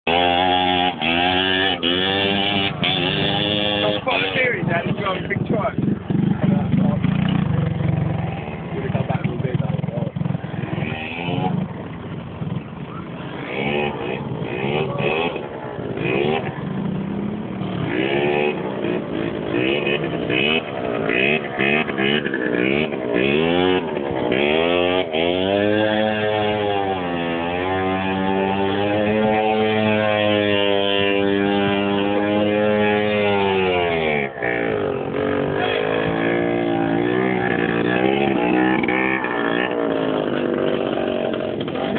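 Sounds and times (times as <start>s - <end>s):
quad bike engine revving: 0.0s - 41.9s.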